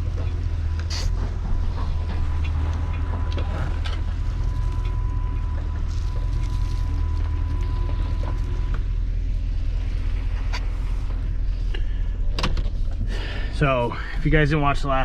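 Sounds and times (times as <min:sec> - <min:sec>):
thin steady whine: 0:00.0 - 0:15.0
truck engine rumbling: 0:00.0 - 0:15.0.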